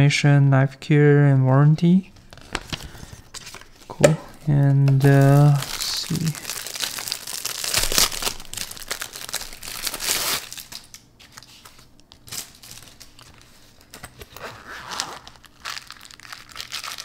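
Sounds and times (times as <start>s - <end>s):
plastic wrapping crinkling and tearing: 2.2s - 17.0s.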